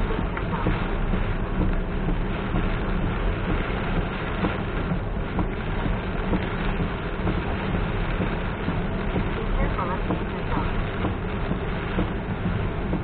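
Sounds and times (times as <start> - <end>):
heavy rain: 0.0 - 13.0
low rumble: 0.0 - 13.0
tyres on wet road: 0.0 - 13.0.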